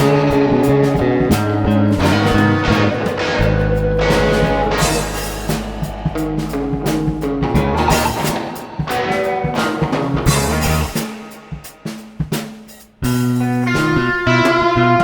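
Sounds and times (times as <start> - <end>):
electric bass: 0.0 - 9.0, 9.8 - 11.0, 13.0 - 15.0
electric guitar: 0.0 - 11.6, 13.0 - 15.0
drum kit: 0.0 - 15.0.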